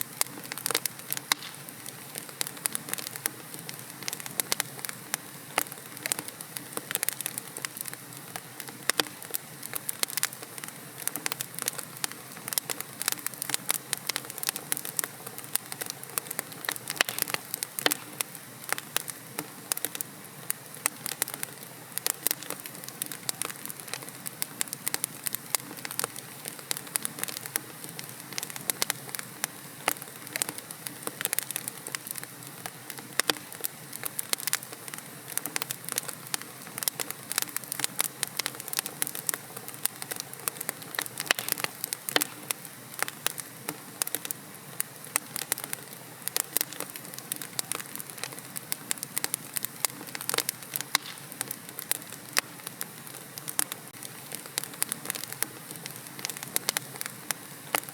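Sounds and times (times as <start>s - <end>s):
logs crackling in fireplace: 0.0s - 57.9s
soft hiss: 0.0s - 57.9s.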